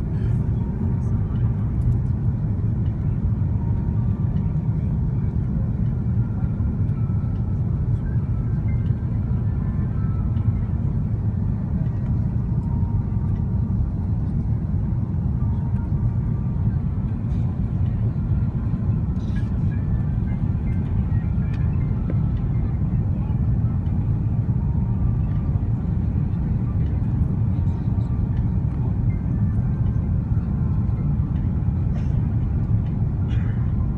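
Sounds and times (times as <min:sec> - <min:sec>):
aircraft cabin engine rumble: 0:00.0 - 0:33.9.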